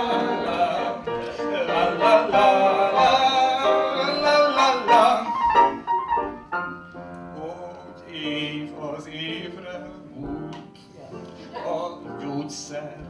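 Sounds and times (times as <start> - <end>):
man singing: 0.0 - 5.8, 7.3 - 13.0
instrumental accompaniment: 0.0 - 13.0.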